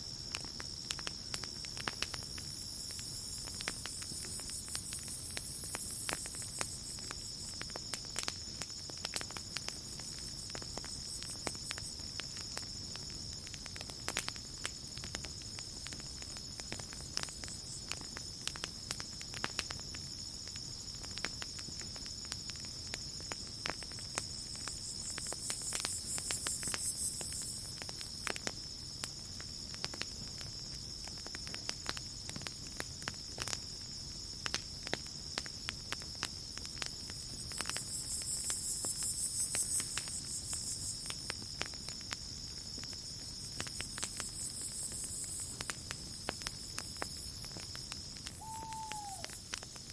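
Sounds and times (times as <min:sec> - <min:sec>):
crickets trilling: 0:00.0 - 0:49.9
campfire crackling and popping: 0:00.1 - 0:49.9.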